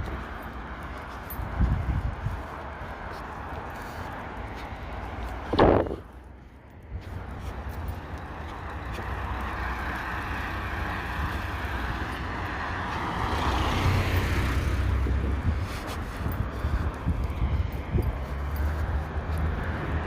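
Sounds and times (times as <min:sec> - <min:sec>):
car tyres passing on road: 0:00.0 - 0:20.0
wind rumbling on microphone: 0:00.0 - 0:20.0.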